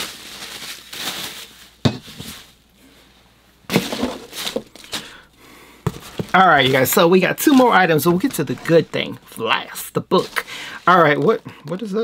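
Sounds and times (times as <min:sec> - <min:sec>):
packaging rustling: 0:00.0 - 0:02.6, 0:03.7 - 0:05.3, 0:05.9 - 0:12.0.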